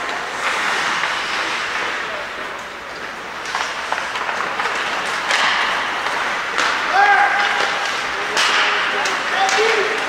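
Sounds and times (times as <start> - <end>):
hockey stick clacks: 0.0 - 10.0
skates scraping ice: 0.0 - 10.0.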